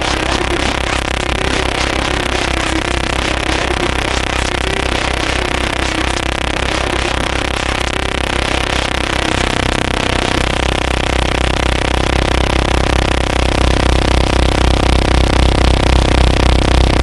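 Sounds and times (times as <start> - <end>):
droning distorted noise music: 0.0 - 17.0.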